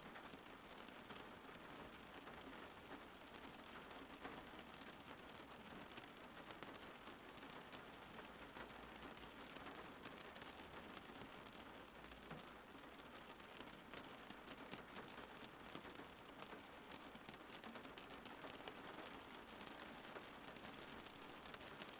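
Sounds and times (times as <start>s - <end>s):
rain drops pattering: 0.0s - 21.9s.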